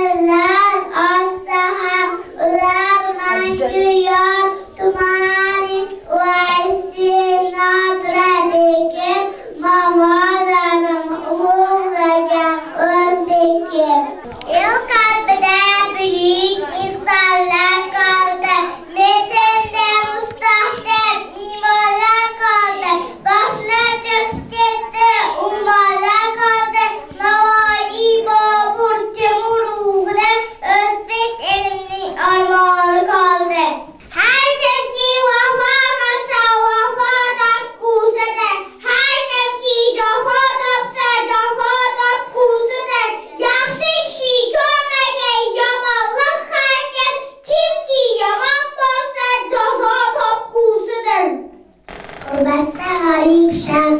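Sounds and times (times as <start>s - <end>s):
child singing into a microphone: 0.0s - 53.9s.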